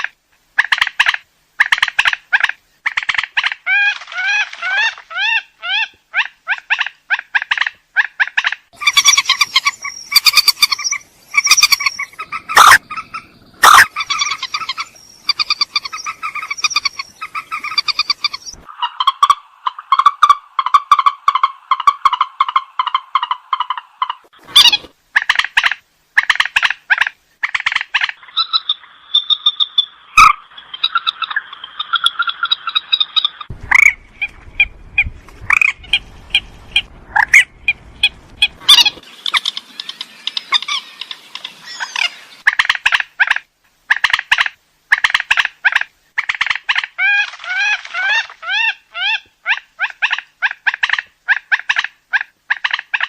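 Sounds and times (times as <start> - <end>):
waterhen croaking calls: 0.0 - 53.0.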